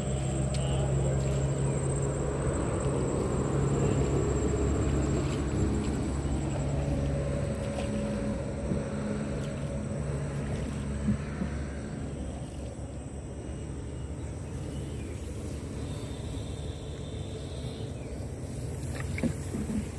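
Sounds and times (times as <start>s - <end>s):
boat engine running: 0.0s - 19.9s.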